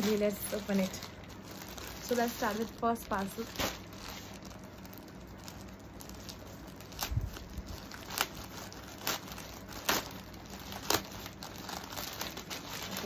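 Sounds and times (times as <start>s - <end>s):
plastic mailer crinkling: 0.0s - 13.0s.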